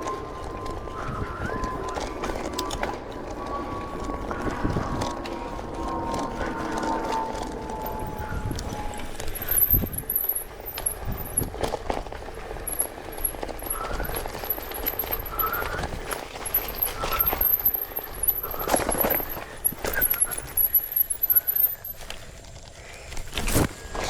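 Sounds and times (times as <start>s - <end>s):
bicycle rattling on dirt trail: 0.0s - 24.0s.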